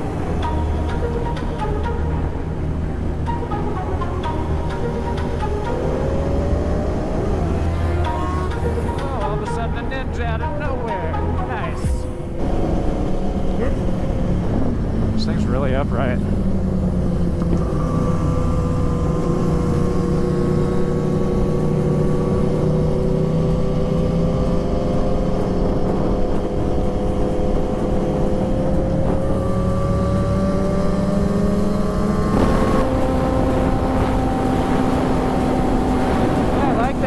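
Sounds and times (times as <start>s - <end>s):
motorcycle engine cruising: 0.0s - 37.0s.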